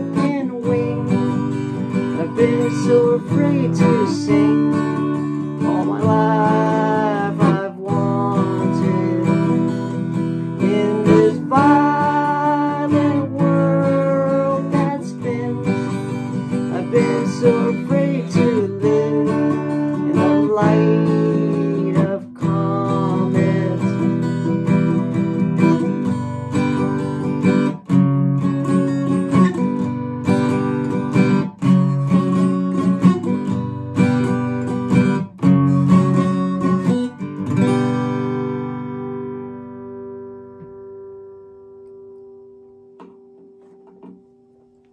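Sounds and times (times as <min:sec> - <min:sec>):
acoustic guitar strumming: 0:00.0 - 0:44.9
held melody line: 0:00.0 - 0:44.9.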